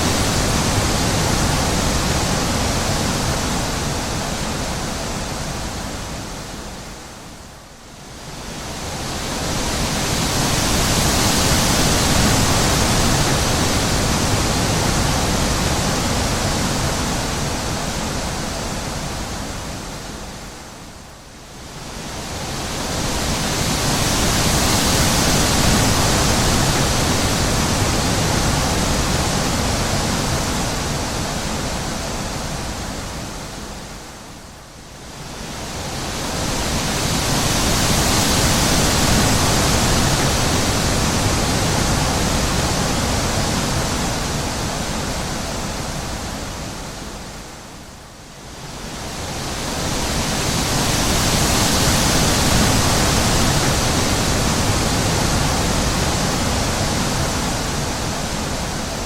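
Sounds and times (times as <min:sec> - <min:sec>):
wind blowing in gusts: 0:00.0 - 0:59.0.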